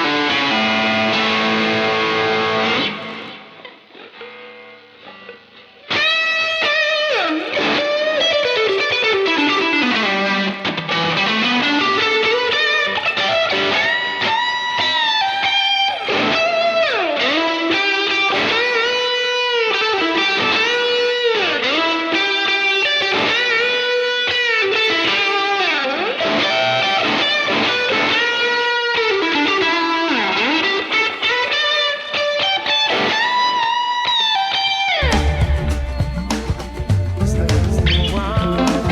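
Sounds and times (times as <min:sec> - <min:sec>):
overdriven electric guitar lead: 0:00.0 - 0:38.9.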